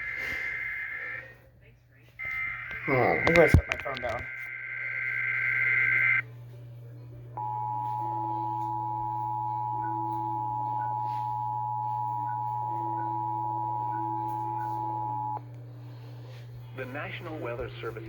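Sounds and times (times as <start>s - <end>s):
low hum: 0.0s - 1.6s, 2.2s - 16.8s.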